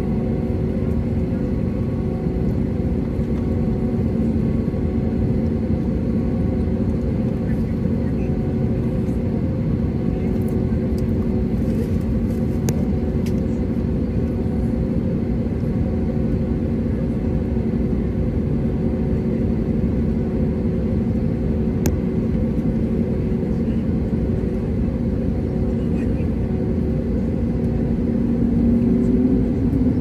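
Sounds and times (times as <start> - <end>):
airplane cabin engine rush: 0.0 - 30.0.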